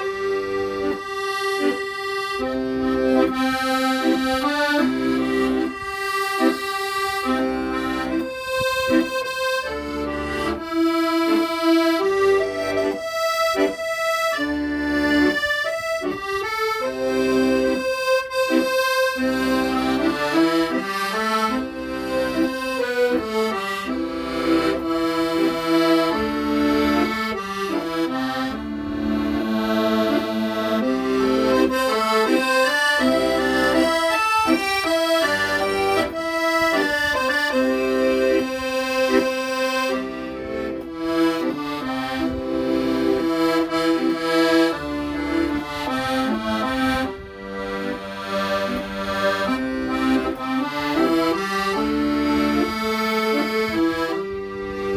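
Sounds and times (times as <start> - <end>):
solo accordion playing slow melody: 0.0 - 54.9.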